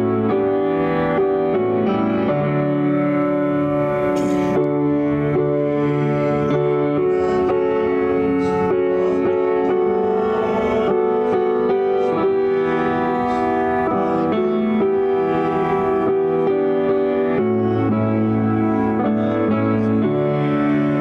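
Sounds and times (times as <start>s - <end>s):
piano playing held chords: 0.0s - 21.0s.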